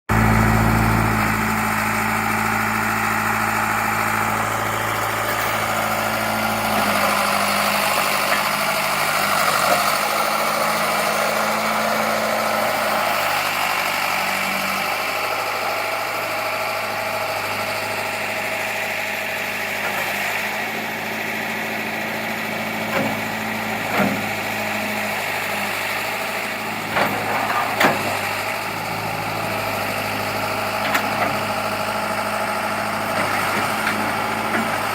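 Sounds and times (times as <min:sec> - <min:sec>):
backhoe engine idling: 0:00.1 - 0:34.9.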